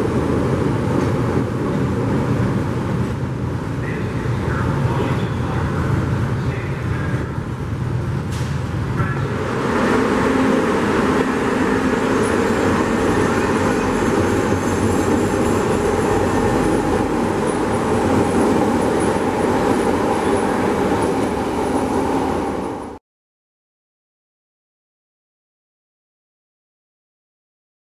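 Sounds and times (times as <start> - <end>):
subway wheels rumbling on rail: 0.0 - 23.0.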